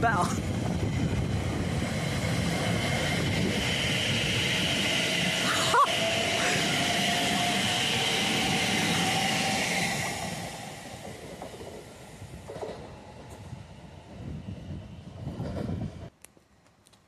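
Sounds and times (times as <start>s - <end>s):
train carriages rumbling past: 0.0s - 16.1s.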